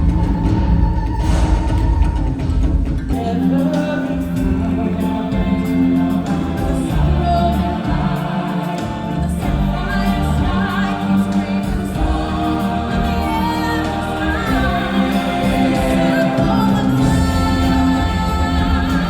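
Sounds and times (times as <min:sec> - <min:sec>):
choir singing: 0:00.0 - 0:19.0
musical accompaniment: 0:00.0 - 0:19.0.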